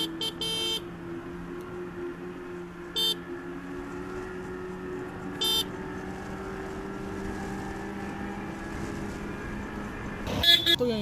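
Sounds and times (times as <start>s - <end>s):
road rumble: 0.0s - 11.0s
wind: 0.0s - 11.0s.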